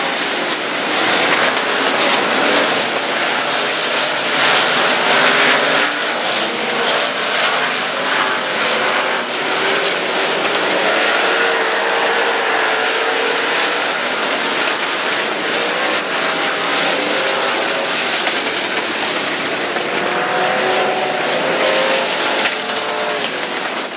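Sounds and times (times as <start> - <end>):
din of engine and exhaust: 0.0 - 23.9
race car engines passing: 0.0 - 23.9.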